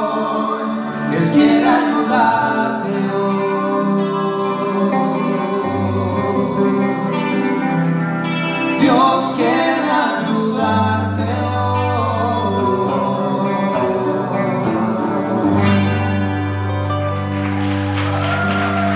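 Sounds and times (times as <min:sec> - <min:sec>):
person singing: 0:00.0 - 0:17.4
live rock band playing: 0:00.0 - 0:18.9.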